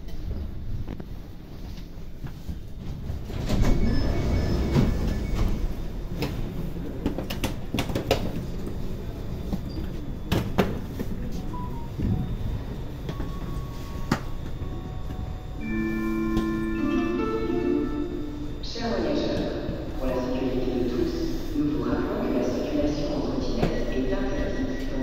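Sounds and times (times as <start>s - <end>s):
sliding train doors opening: 0.0s - 22.3s
train rumbling at platform: 0.0s - 25.0s.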